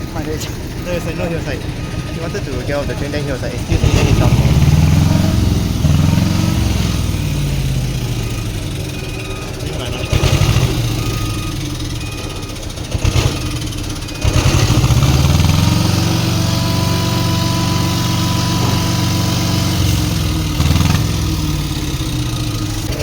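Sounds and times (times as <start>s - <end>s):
diesel truck engine droning: 0.0s - 23.0s
faint engine whine: 0.0s - 23.0s.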